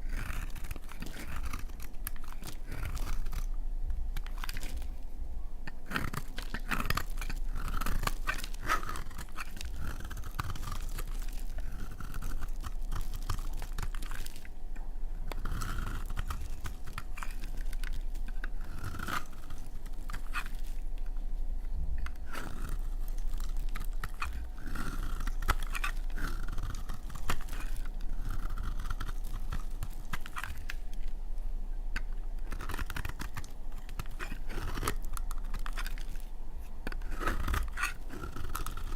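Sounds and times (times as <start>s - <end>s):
blade scraping soap: 0.0s - 3.5s, 4.2s - 5.1s, 5.7s - 14.6s, 15.2s - 21.0s, 22.0s - 31.2s, 31.9s - 38.9s
soap crunching and crackling: 0.0s - 5.0s, 5.7s - 21.2s, 22.0s - 38.9s.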